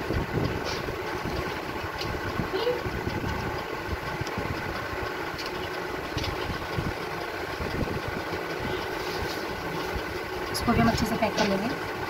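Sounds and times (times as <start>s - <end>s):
mechanical motor hum: 0.0s - 12.0s.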